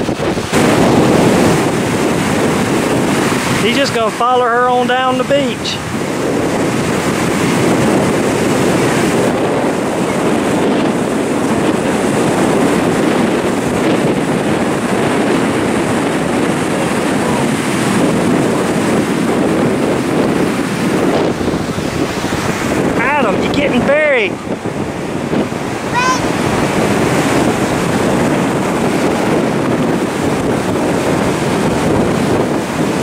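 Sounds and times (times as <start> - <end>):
ocean surf breaking: 0.0 - 33.0
wind rumbling on microphone: 0.0 - 33.0.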